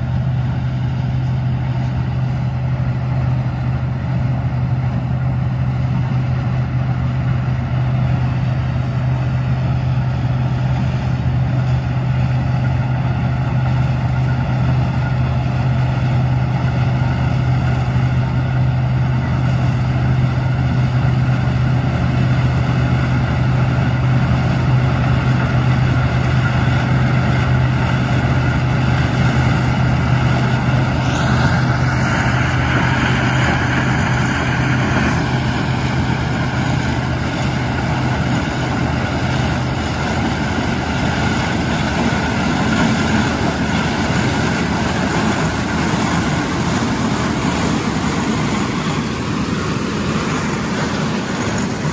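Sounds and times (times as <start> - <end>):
combine harvester engine drone: 0.0 - 51.9.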